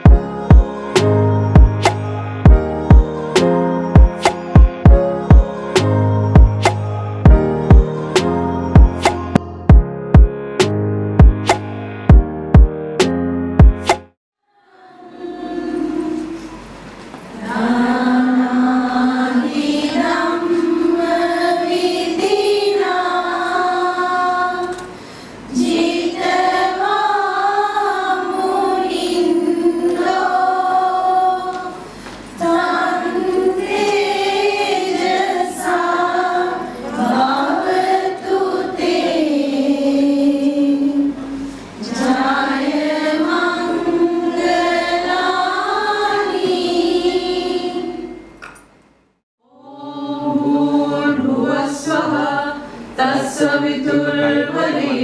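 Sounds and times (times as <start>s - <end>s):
voices singing a slow chant: 0.0s - 9.7s, 14.5s - 48.4s, 49.4s - 55.0s.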